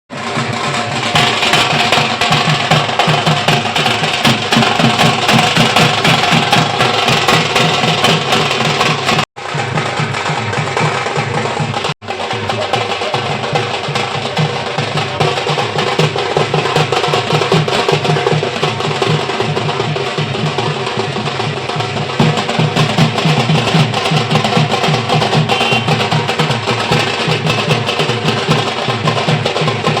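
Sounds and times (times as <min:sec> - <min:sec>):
fast drumming and percussion: 0:00.1 - 0:30.0.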